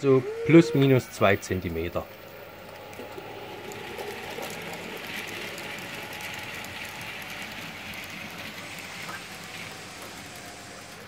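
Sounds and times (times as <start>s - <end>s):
model train whirring: 0.0s - 11.0s
wheels clicking over rails: 0.0s - 11.0s.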